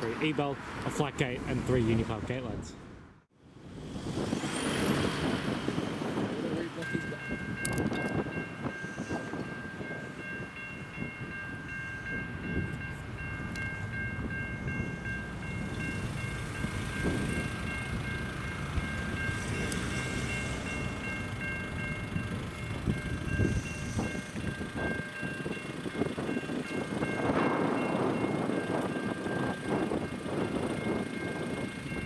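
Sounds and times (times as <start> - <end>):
train rumbling: 3.5 - 32.0.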